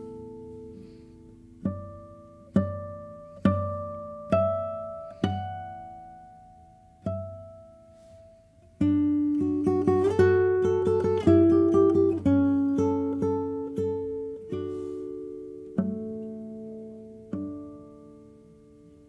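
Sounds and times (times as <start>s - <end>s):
acoustic guitar plucked notes: 0.0s - 19.0s.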